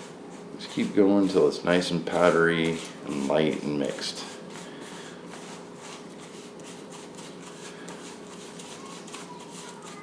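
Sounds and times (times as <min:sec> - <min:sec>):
spice rub mixed by hand in bowl: 0:00.0 - 0:10.0.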